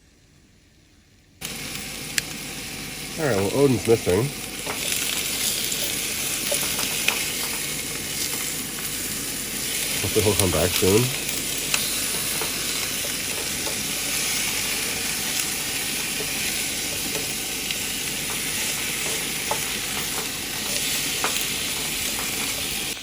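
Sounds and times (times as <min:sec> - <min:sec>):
chicken wings sizzling: 0:01.4 - 0:23.0.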